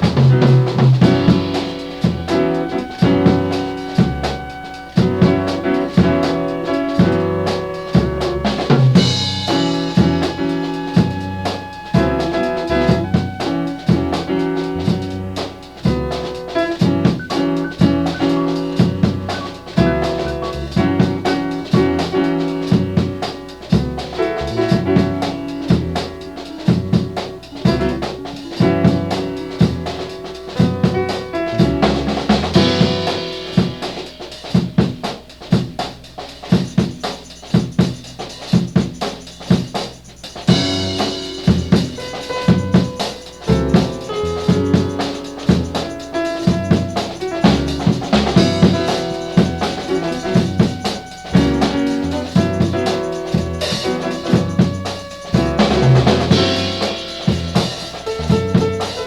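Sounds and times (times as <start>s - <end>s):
instrumental music with drum beat: 0.0s - 59.0s.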